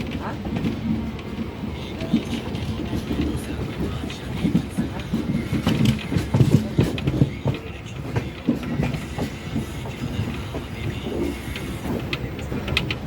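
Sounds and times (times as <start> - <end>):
train rumbling on tracks: 0.0 - 13.0
wheels clicking on rail joints: 0.0 - 13.0.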